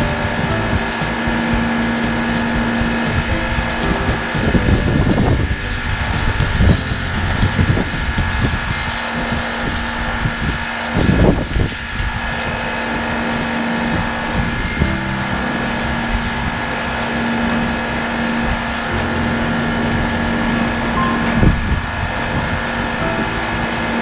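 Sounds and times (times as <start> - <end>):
water jet hissing on concrete: 0.0 - 5.4, 6.0 - 14.7, 15.4 - 24.0
pressure washer motor hum: 0.0 - 24.0.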